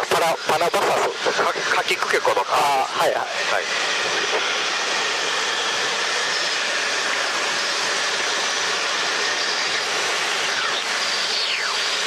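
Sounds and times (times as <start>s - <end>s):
helicopter cabin noise: 0.0s - 12.0s
faint high whining tones: 0.2s - 12.0s.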